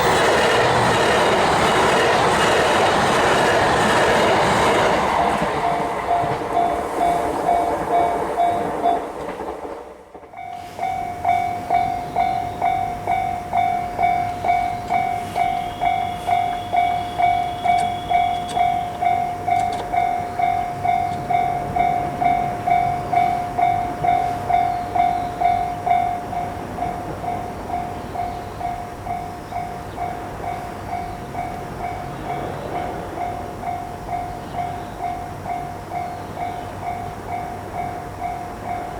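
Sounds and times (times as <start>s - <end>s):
level-crossing warning bell ringing: 0.0s - 9.5s, 10.2s - 38.9s
train wheels rumbling on rails: 0.0s - 38.9s.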